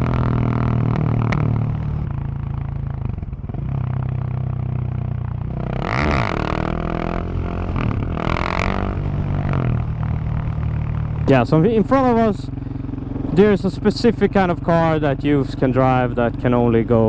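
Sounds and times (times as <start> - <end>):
motorcycle exhaust while riding: 0.0 - 17.0.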